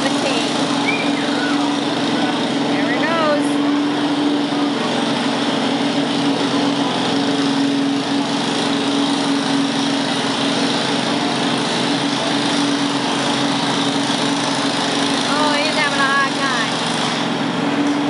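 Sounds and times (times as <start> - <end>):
lawn tractor engine under load: 0.0 - 18.0.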